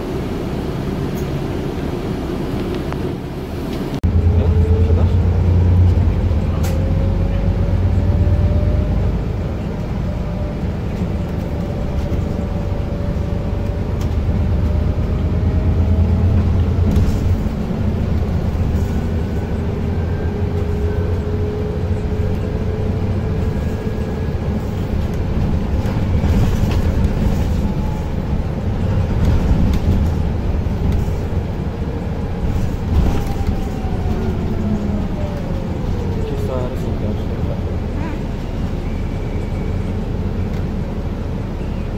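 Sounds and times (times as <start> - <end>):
bus engine drone: 0.0 - 41.9
road rumble: 0.0 - 41.9.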